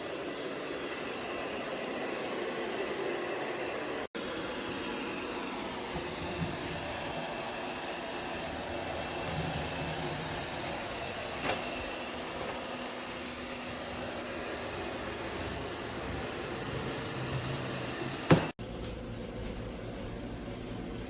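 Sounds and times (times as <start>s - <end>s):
robot vacuum whirring: 0.0s - 18.6s.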